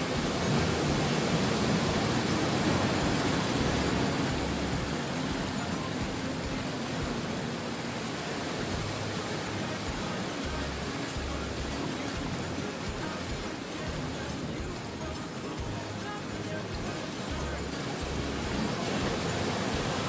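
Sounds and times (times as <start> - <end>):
sea surf breaking on shore: 0.0 - 20.0.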